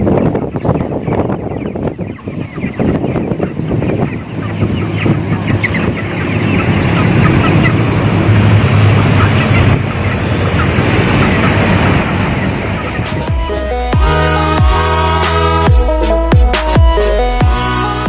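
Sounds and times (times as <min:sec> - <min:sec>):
road noise rumble: 0:00.0 - 0:18.0.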